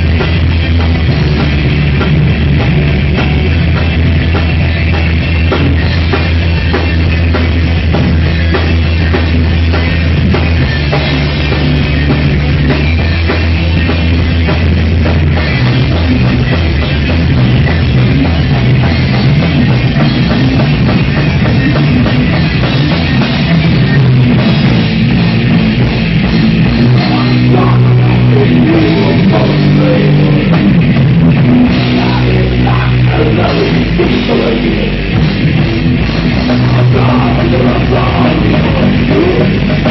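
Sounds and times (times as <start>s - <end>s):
bass guitar low notes: 0.0s - 39.9s
heavy rock band playing: 0.0s - 39.9s.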